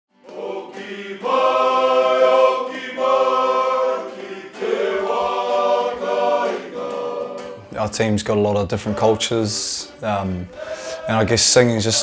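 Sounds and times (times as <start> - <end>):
men singing together: 0.3 - 7.7, 8.6 - 12.0.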